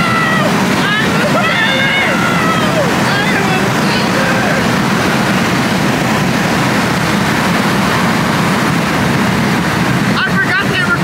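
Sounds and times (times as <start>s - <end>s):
car engine rumbling at speed: 0.0s - 11.0s
road and wind noise: 0.0s - 11.0s.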